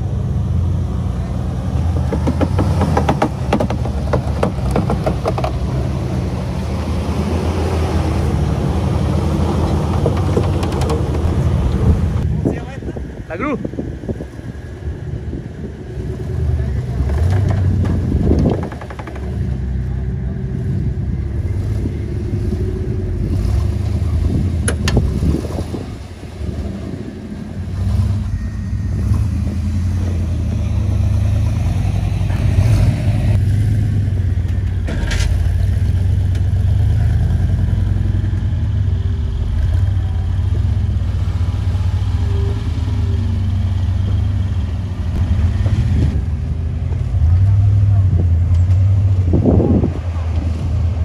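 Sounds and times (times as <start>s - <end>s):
off-road vehicle engine running: 0.0s - 51.0s.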